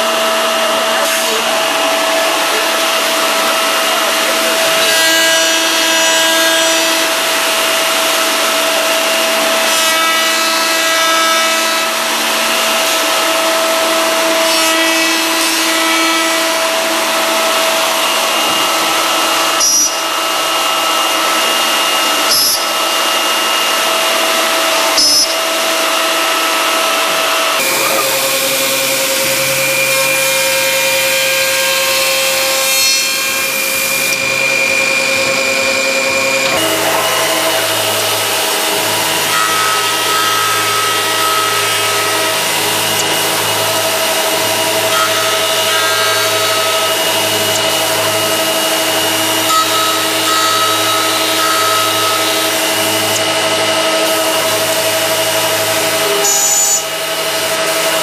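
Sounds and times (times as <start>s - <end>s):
machine spindle whine: 0.0s - 58.0s.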